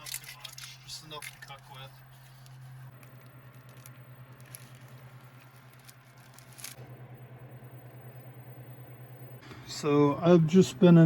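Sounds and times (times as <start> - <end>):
pulsing low hum: 1.3 - 10.8.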